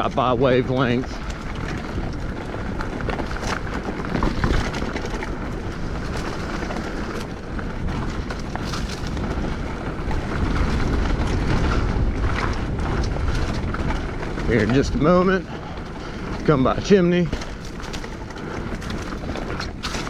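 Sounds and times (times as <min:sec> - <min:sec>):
bike clicks and rattles: 0:00.0 - 0:20.0
mountain bike rolling on dirt: 0:00.0 - 0:20.0
wind buffeting microphone: 0:00.0 - 0:20.0.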